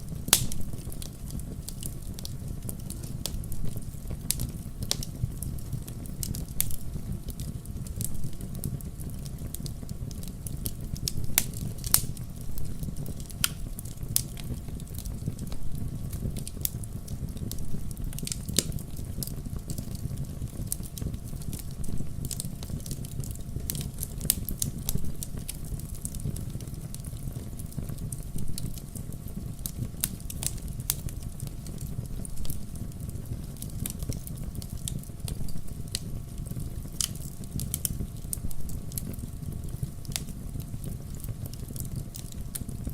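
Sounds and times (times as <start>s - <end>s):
logs crackling and popping: 0.0s - 42.9s
low rumble of flames: 0.0s - 42.9s.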